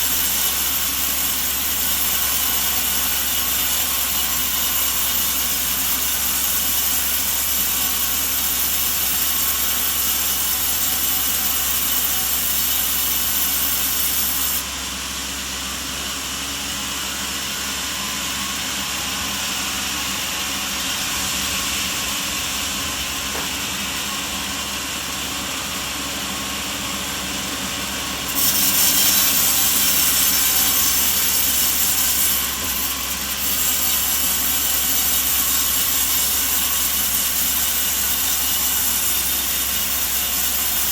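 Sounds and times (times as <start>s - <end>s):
sawmill saw cutting wood: 0.0s - 40.9s.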